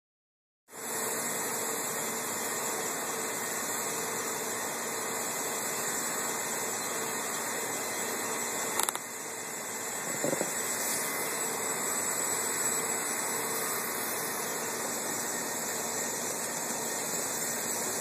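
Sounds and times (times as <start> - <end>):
lawn sprinkler hissing: 0.8 - 18.0.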